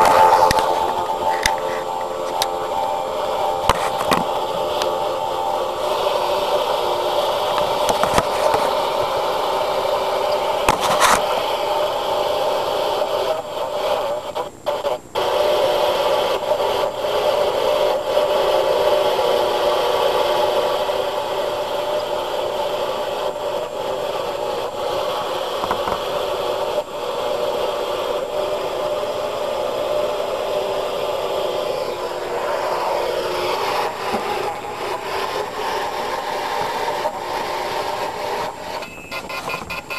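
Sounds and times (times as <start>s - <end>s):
steady tone: 0.0s - 13.9s, 15.2s - 39.2s
heavy hiss: 0.0s - 39.2s.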